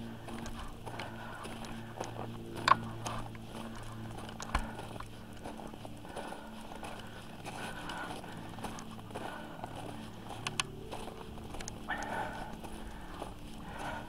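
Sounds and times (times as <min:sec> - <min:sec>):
footsteps crunching on packed snow: 0:00.0 - 0:14.0
steady low hum: 0:00.0 - 0:14.0
trekking poles tapping: 0:00.0 - 0:14.0.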